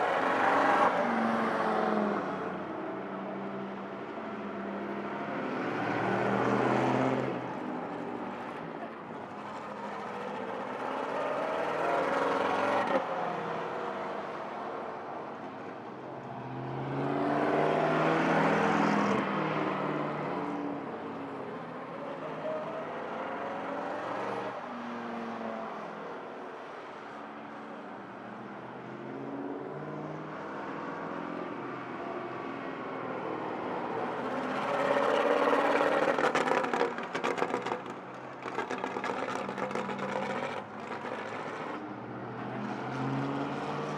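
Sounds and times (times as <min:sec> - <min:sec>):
vintage cars driving by: 0:00.0 - 0:43.9.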